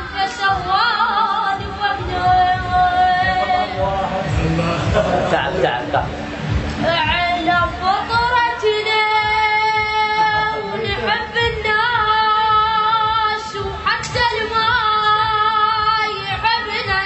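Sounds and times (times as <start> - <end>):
soft rhythmic accompaniment: 0.0 - 17.0.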